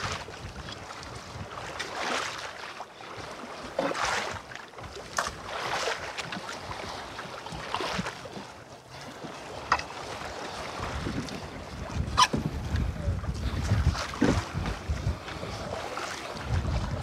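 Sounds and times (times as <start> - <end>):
water slapping against boat hull: 0.0 - 17.0.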